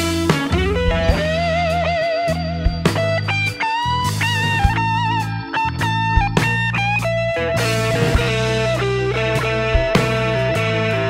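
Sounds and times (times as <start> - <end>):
percussion hits: 0.0 - 10.4
electric guitar with vibrato: 0.0 - 11.0.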